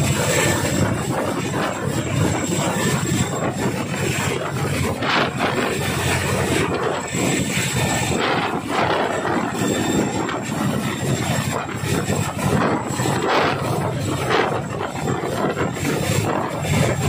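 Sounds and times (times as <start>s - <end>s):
helicopter rotors beating: 0.0s - 17.0s
helicopter turbine noise: 0.0s - 17.0s.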